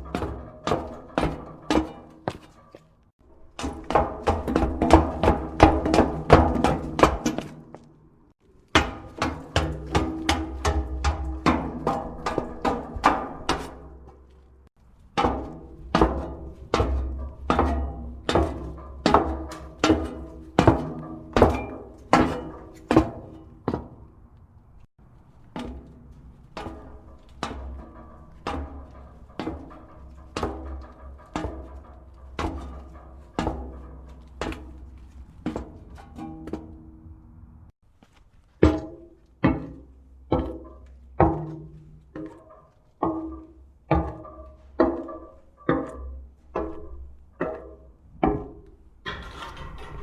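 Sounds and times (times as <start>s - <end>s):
footsteps on metal stairs: 0.0s - 50.0s.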